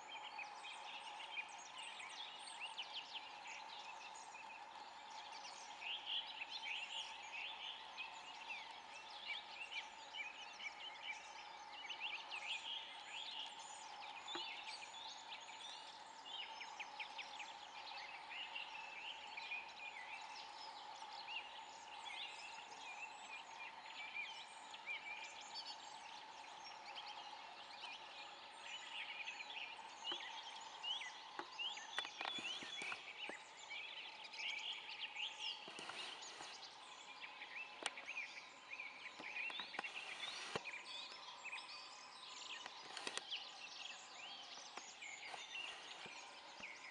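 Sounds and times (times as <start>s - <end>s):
distant chirping chorus: 0.0s - 46.9s.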